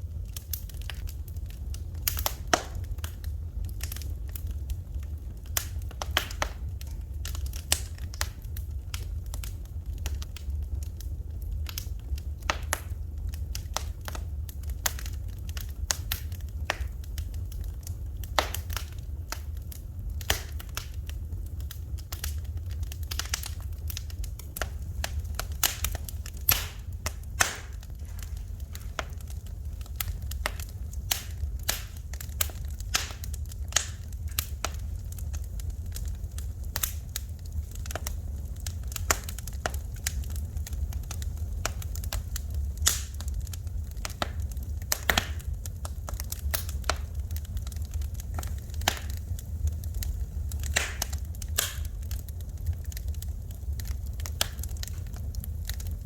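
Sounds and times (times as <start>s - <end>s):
steady low rumble: 0.0s - 56.0s
wood fire crackling and popping: 0.0s - 56.0s.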